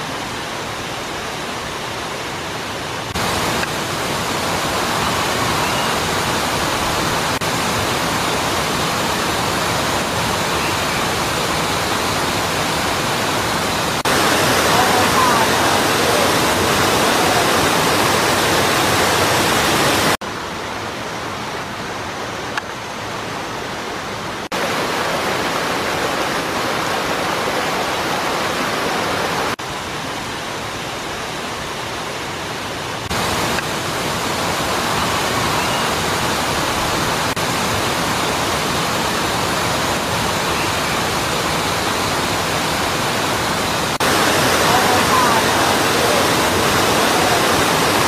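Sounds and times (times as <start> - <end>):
waterfall rushing over rock: 0.0 - 48.0.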